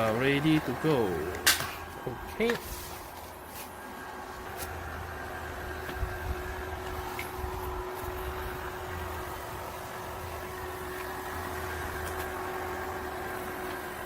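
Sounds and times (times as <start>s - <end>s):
robot vacuum cleaner humming: 0.0s - 14.0s.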